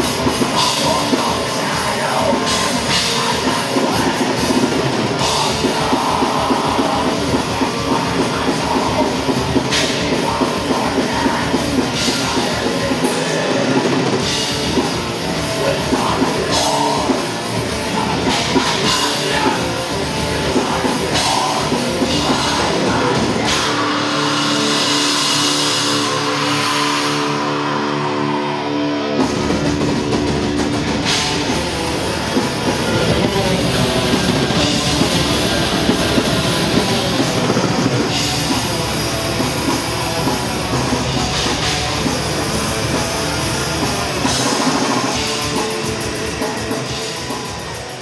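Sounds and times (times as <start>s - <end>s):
distorted guitar chords: 0.0s - 48.0s
drums: 0.0s - 48.0s
extreme metal band playing: 0.0s - 48.0s.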